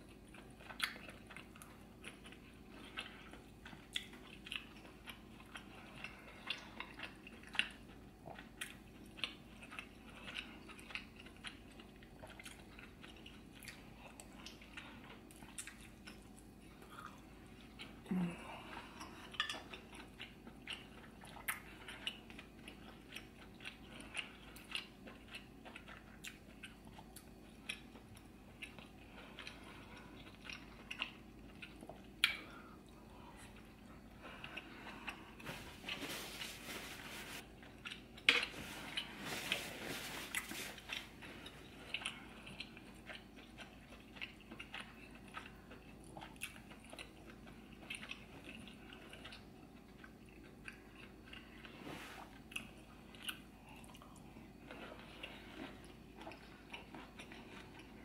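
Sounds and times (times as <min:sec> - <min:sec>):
chewing and lip smacking: 0:00.0 - 0:18.1, 0:19.0 - 0:36.1, 0:37.4 - 0:58.0.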